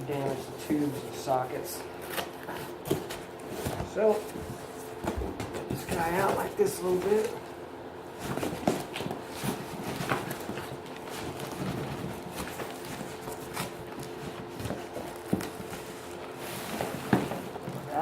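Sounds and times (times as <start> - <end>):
cardboard scraping and rustling: 2.0 - 7.5, 8.1 - 18.0.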